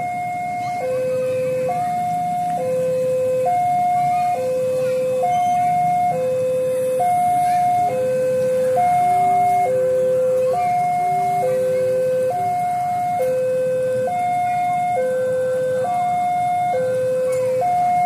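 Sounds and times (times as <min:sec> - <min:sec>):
level crossing two-tone alarm: 0:00.0 - 0:18.0.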